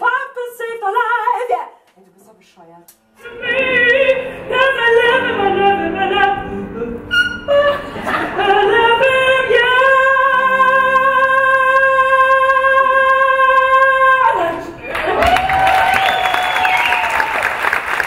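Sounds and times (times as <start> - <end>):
woman singing opera: 0.0 - 1.6, 3.2 - 16.1
piano: 3.1 - 18.0.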